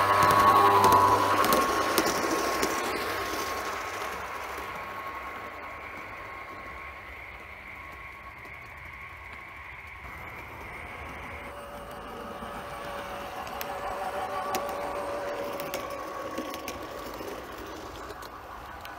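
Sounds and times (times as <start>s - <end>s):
model train wheel and motor noise: 0.0s - 18.9s
thin steady whine: 0.0s - 18.9s.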